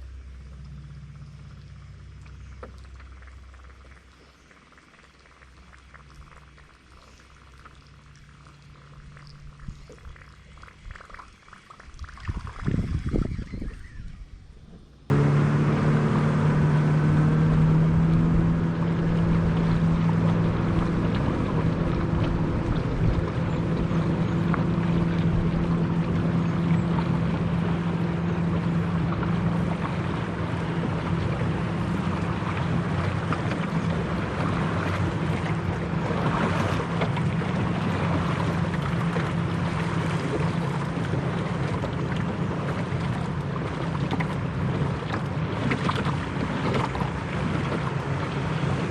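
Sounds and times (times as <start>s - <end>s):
boat motor hum: 0.0s - 48.9s
water noise: 0.0s - 48.9s
wind: 0.0s - 48.9s.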